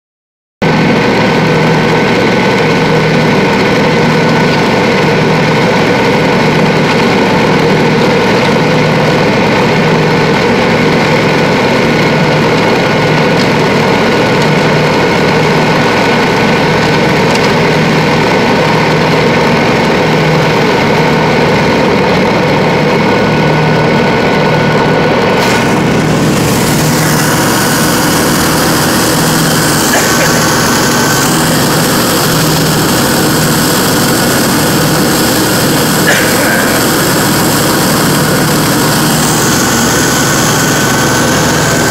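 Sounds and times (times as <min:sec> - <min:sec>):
lawn mower engine humming: 0:00.6 - 0:41.9
mower chopping dry leaves: 0:00.6 - 0:41.9.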